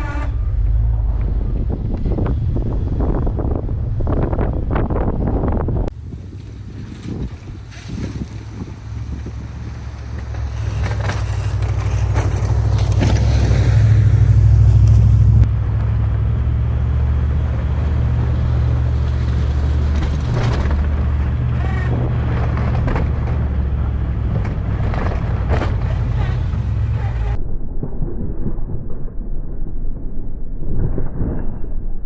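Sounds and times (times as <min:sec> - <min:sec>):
truck engine droning: 0:00.0 - 0:27.4.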